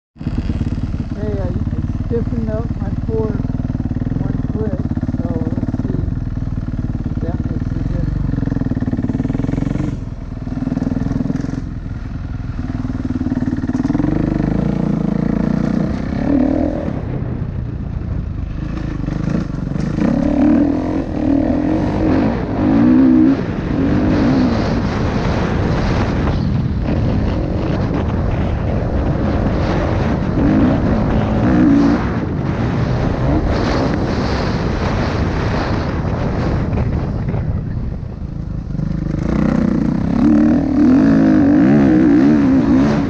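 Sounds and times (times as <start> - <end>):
dirt bike engine revving: 0.2 - 37.4, 38.6 - 43.0.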